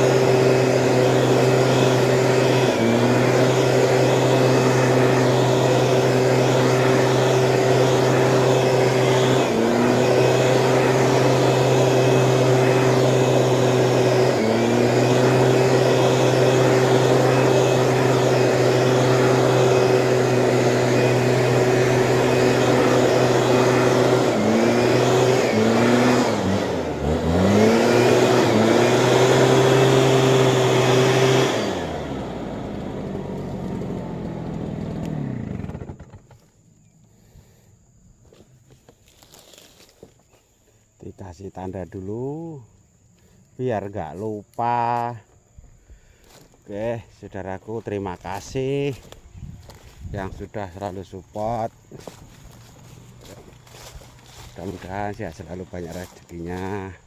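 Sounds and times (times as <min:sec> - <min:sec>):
weed sprayer engine running: 0:00.0 - 0:57.0.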